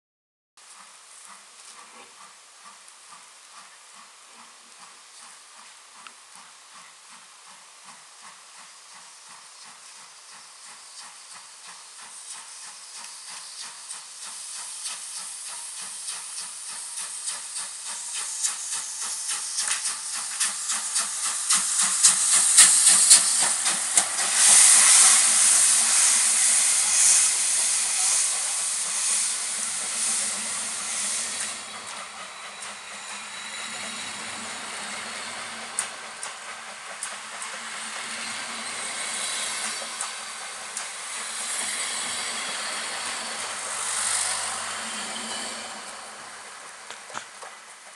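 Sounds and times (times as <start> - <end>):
steam locomotive chuffing: 0.6 - 47.9
loud steam hiss: 0.7 - 47.9.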